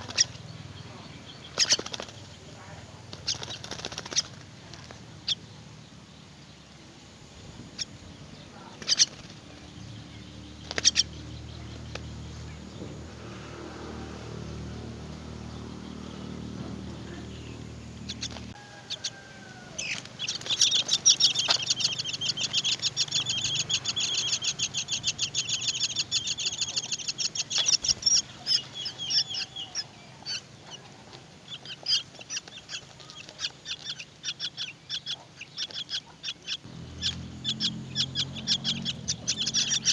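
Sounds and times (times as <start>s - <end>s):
nestlings begging chatter: 0.0s - 39.9s.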